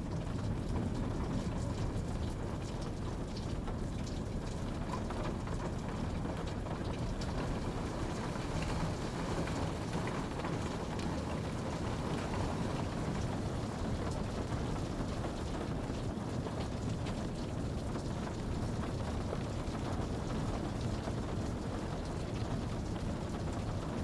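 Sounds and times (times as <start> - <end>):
steady rainfall: 0.0 - 24.0
raindrop ticks: 0.1 - 23.9.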